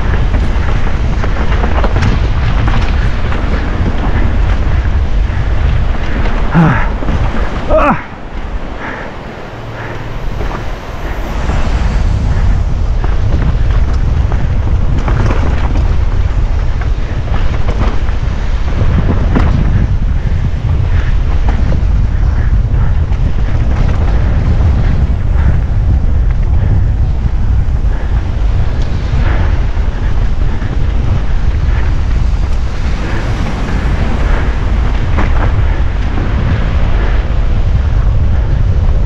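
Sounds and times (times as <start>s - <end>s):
bike knocks and rattles: 0.0s - 8.0s, 12.3s - 39.0s
wind buffeting microphone: 0.0s - 39.0s.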